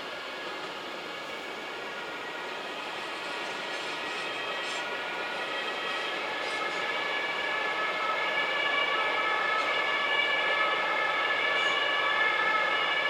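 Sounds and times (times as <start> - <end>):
train wheels squealing on rails: 0.2 - 13.0.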